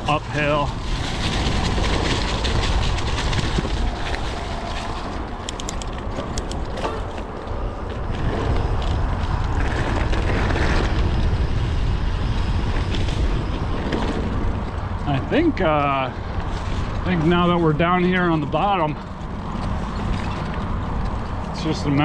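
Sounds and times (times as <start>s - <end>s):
bike clicks and rattles: 0.0s - 22.0s
tyres on dirt trail: 0.0s - 22.0s
wind over microphone: 0.0s - 22.0s.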